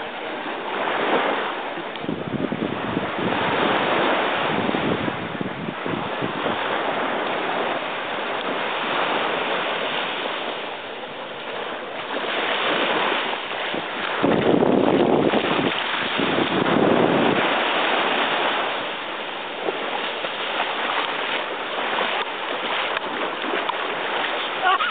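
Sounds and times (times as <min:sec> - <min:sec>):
small waves washing onto beach: 0:00.0 - 0:24.9
wind on microphone: 0:00.0 - 0:24.9.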